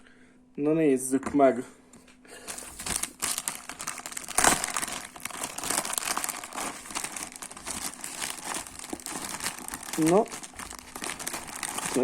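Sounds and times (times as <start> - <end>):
packaging crinkling and tearing: 2.4 - 12.0.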